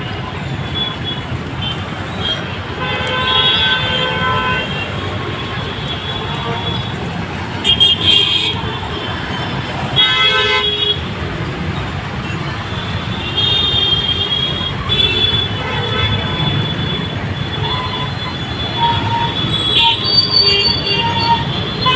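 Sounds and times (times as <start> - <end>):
road traffic: 0.0 - 21.9
vehicle horns honking: 0.6 - 11.2, 12.2 - 21.9.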